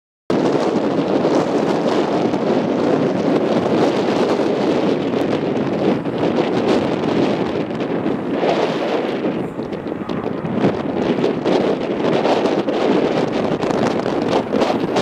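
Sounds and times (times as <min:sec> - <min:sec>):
wind rushing on microphone: 0:00.3 - 0:15.0.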